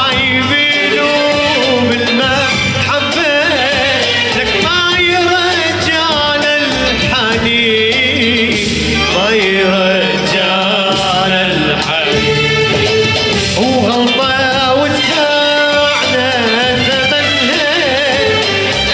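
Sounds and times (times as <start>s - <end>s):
man singing into a microphone: 0.0s - 18.9s.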